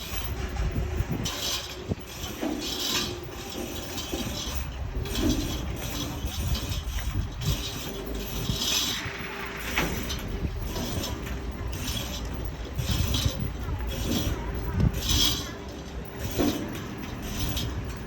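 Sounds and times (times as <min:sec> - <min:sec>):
rushing clattering noise: 0:00.0 - 0:18.0
vehicle engine rumbling: 0:00.0 - 0:18.0.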